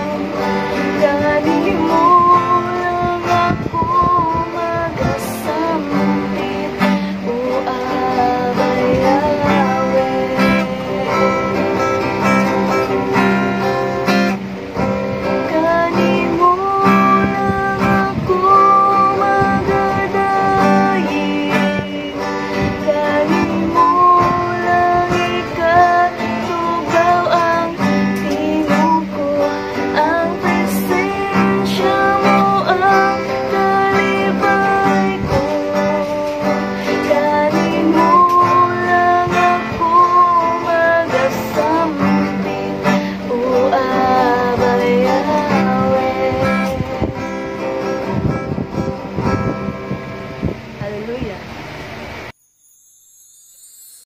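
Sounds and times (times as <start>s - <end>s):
woman singing worship song: 0.0s - 49.8s
acoustic guitar strumming: 0.0s - 54.0s.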